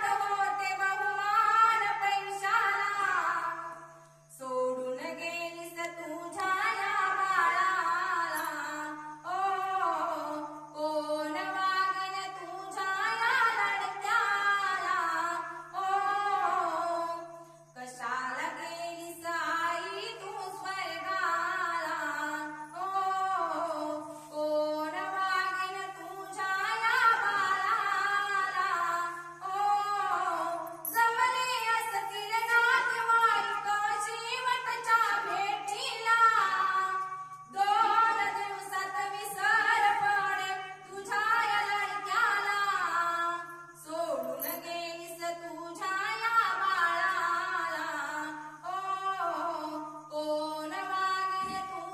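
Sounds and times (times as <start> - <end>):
woman singing unaccompanied: 0.0 - 51.9.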